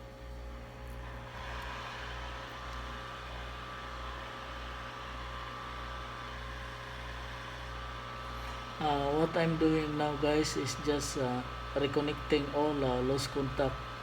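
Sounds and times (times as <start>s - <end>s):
low electrical hum: 0.0s - 14.0s
electric blower hissing: 0.8s - 14.0s.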